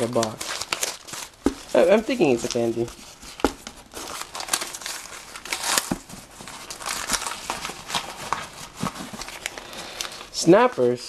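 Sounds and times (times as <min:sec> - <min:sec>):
packaging crinkling: 0:00.0 - 0:10.8.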